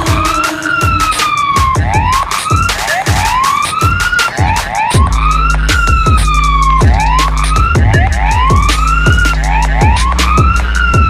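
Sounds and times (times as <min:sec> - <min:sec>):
engine drone: 0:00.0 - 0:11.0
fire truck sirens wailing: 0:00.0 - 0:11.0.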